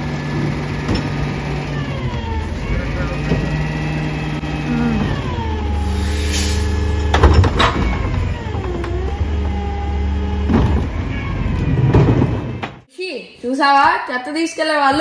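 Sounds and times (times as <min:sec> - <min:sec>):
garbage truck engine hum: 0:00.0 - 0:12.9.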